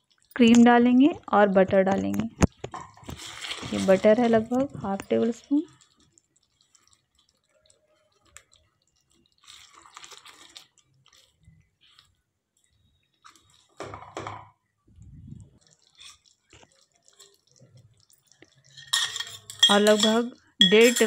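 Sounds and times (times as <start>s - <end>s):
spatula stirring thick gravy: 0.0s - 0.4s, 2.6s - 13.9s, 15.6s - 21.0s.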